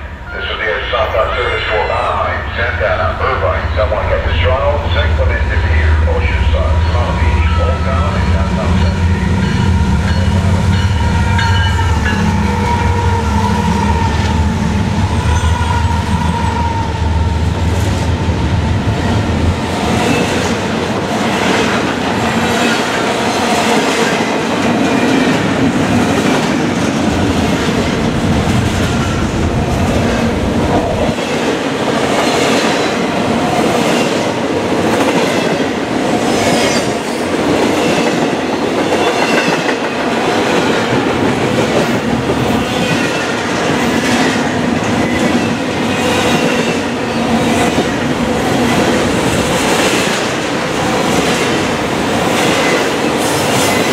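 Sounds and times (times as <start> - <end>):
diesel locomotives running: 0.0 - 53.9.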